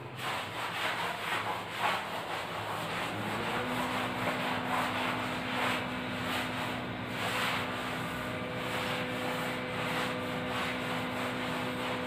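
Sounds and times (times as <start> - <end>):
cloth duster wiping chalkboard: 0.0 - 12.0.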